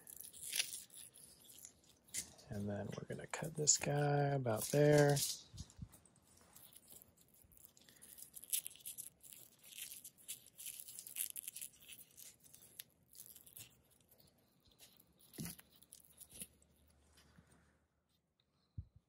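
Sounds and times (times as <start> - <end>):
tape crackling and tearing: 0.0 - 16.9.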